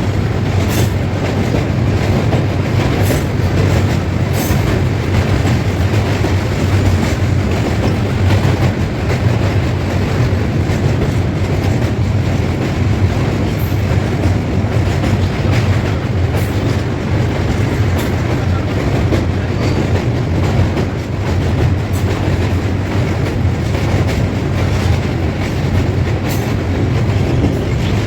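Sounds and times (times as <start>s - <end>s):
train rumbling on rails: 0.0s - 28.0s
train wheel clatter: 0.0s - 28.0s.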